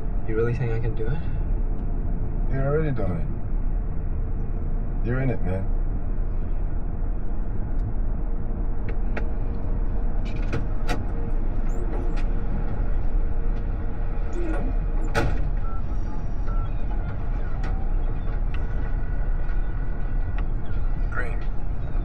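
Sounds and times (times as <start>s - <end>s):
road and tyre rumble: 0.0s - 22.0s.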